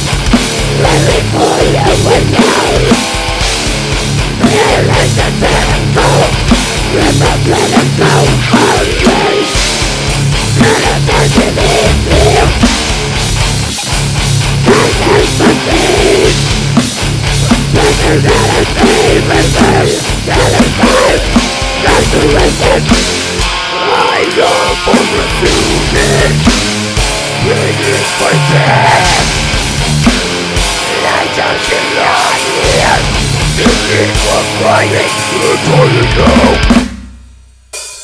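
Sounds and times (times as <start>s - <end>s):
heavy distorted guitars: 0.0s - 38.0s
pounding drum kit: 0.0s - 38.0s.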